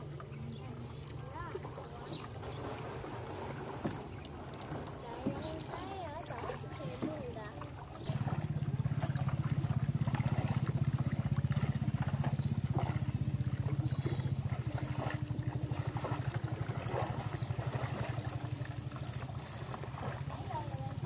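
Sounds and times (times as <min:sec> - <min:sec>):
small boat engine running: 0:00.0 - 0:21.0
water trickling and splashing: 0:00.0 - 0:21.0.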